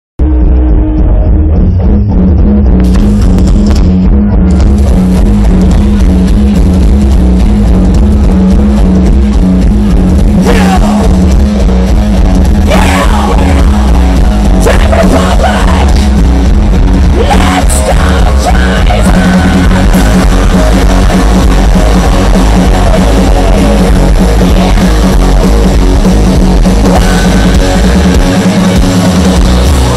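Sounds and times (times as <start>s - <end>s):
rock band playing live: 0.2s - 29.9s.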